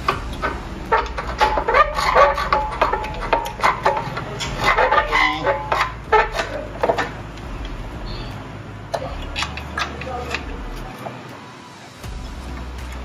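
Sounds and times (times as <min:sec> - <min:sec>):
metal exhaust pipe clinking and scraping: 0:00.0 - 0:11.2.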